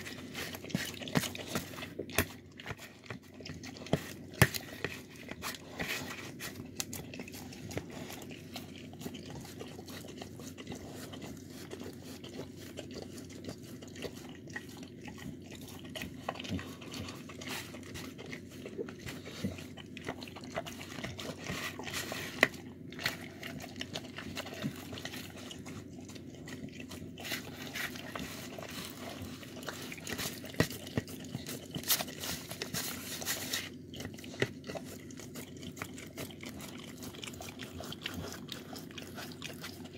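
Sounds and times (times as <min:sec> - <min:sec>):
dog chewing and licking: 0:00.0 - 0:39.9.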